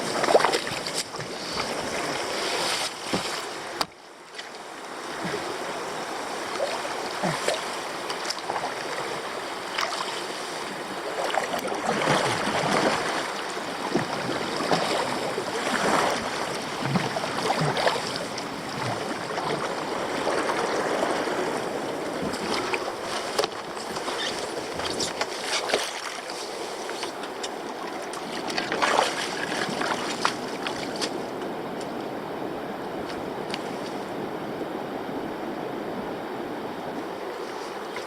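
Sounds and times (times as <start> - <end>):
water splashing around kayak: 0.0 - 38.0.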